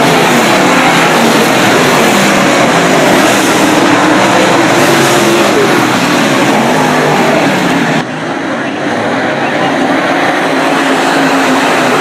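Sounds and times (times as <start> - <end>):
race car engines roaring: 0.0 - 12.0.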